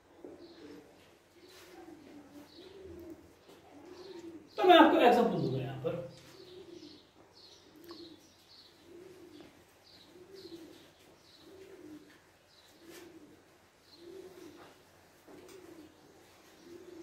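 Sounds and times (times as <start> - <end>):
pigeon cooing: 0.0 - 17.0
small birds chirping: 0.0 - 17.0.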